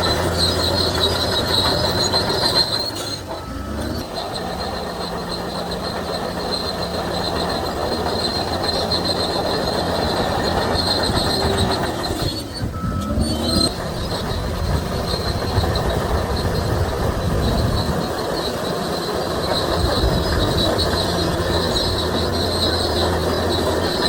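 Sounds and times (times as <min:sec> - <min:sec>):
bulldozer engine drone: 0:00.0 - 0:24.0
steel tracks squealing and clanking: 0:00.0 - 0:24.0.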